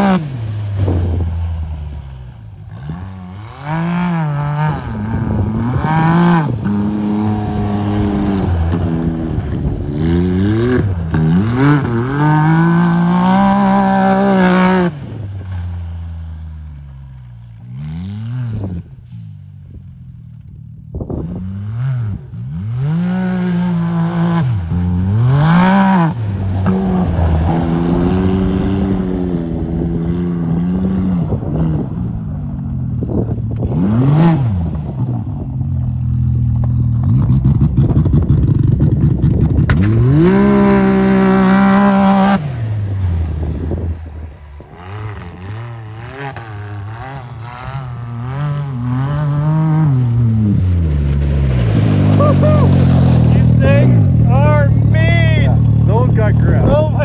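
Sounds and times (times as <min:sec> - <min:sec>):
engine revving: 0:00.0 - 0:19.8, 0:20.9 - 0:57.0.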